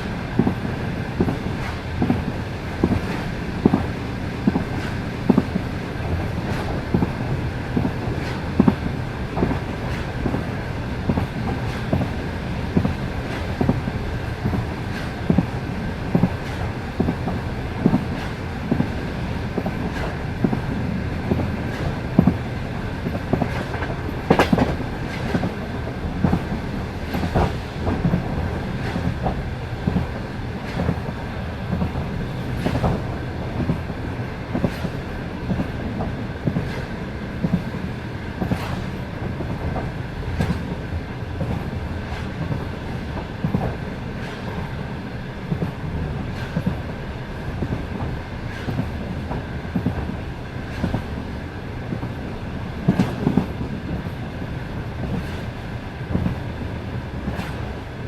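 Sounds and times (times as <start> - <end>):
low rumble of train: 0.0 - 58.0
train wheels clacking over rail joints: 0.0 - 58.0.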